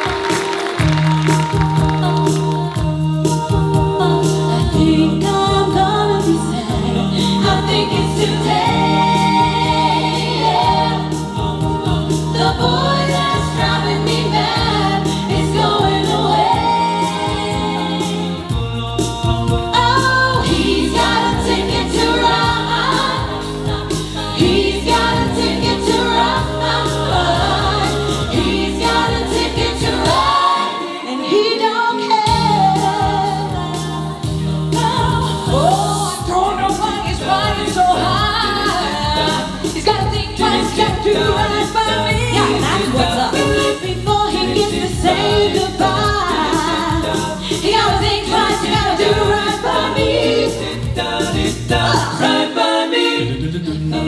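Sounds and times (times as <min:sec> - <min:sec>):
bass backing: 0:00.0 - 0:30.6, 0:32.3 - 0:54.0
group singing in harmony: 0:00.0 - 0:54.0.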